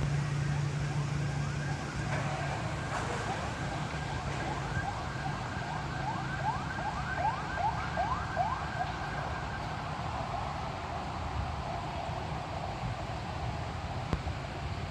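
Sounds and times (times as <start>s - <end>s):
heavy rain hiss: 0.0s - 6.0s, 8.9s - 14.9s.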